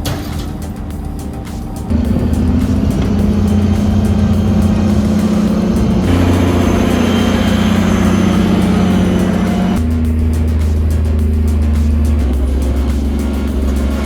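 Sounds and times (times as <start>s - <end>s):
background music: 0.0s - 14.0s
heavy diesel engine running: 0.0s - 14.0s.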